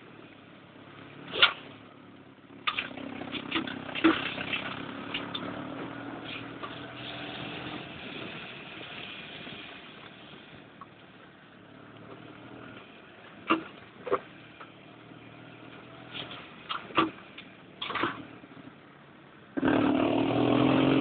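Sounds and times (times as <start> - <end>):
dune buggy engine running: 0.0 - 21.0.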